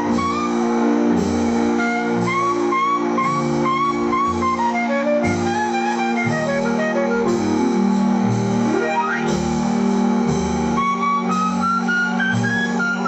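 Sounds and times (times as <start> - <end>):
held chords: 0.0 - 13.0
lead melody of bending notes: 0.0 - 13.0.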